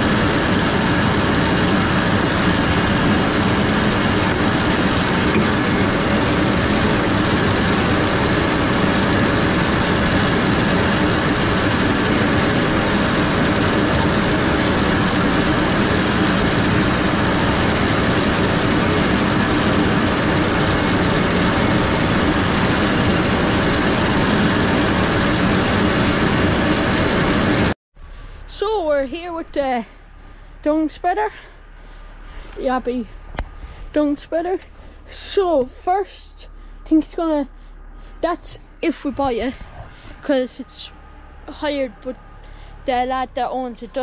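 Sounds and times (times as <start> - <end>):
tractor engine droning: 0.0 - 44.0.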